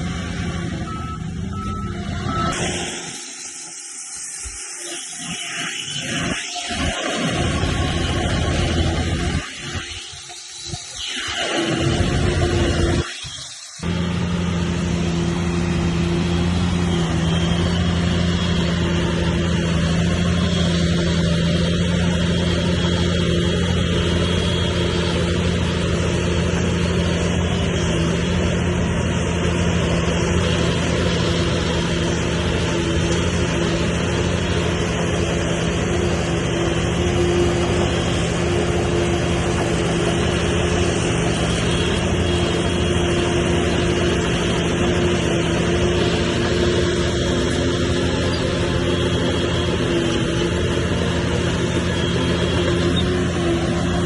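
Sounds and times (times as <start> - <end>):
bulldozer diesel engine running: 0.0 - 5.1, 5.8 - 11.0, 11.6 - 54.0.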